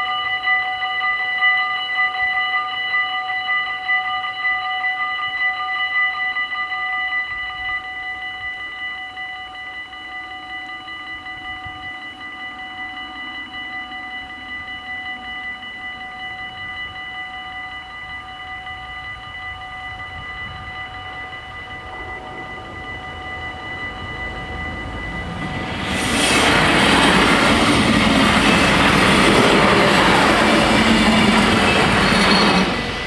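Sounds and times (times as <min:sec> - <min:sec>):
level-crossing warning bells ringing: 0:00.0 - 0:33.0.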